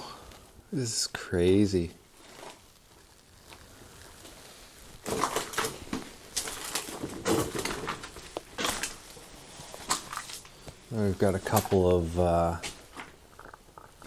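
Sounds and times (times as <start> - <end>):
footsteps crunching over debris: 2.1 - 14.0.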